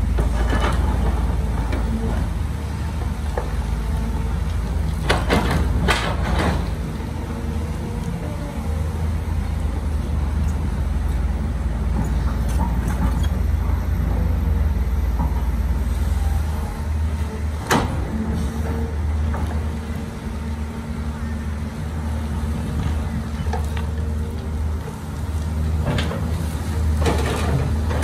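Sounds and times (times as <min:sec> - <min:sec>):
diesel machinery droning: 0:00.0 - 0:28.0.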